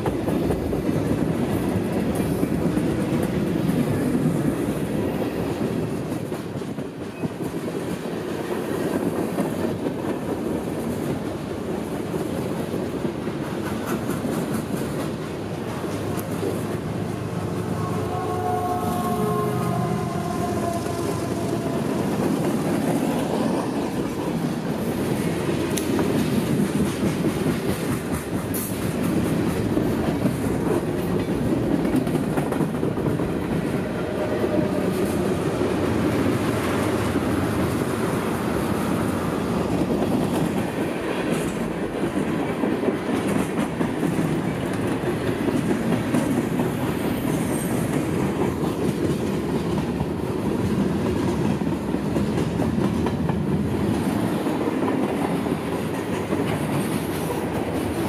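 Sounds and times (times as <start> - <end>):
diesel locomotive passing: 0.0 - 58.0
freight train rumbling past: 0.0 - 58.0
wheels clickety-clack on rail: 0.0 - 58.0.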